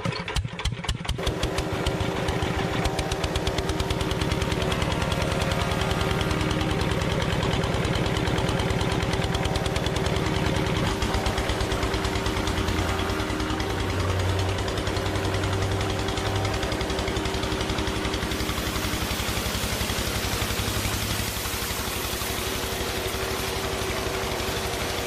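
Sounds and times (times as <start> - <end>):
diesel engine chugging: 0.0 - 25.0
low hum: 1.2 - 25.0.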